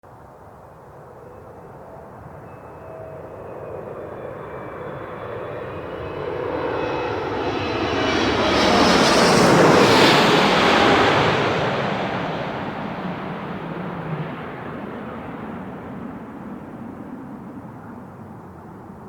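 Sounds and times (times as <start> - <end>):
jet engines roaring: 1.0 - 19.0.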